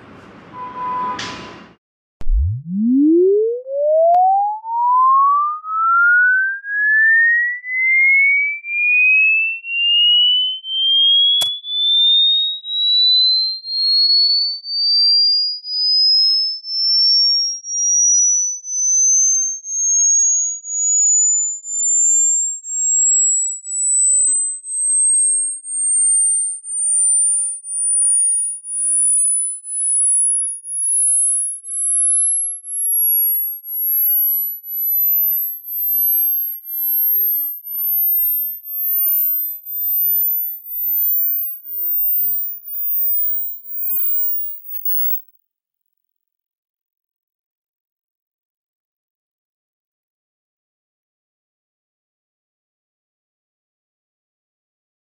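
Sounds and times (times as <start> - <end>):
rising sine test tone: 0.5 - 1.5, 2.2 - 45.2.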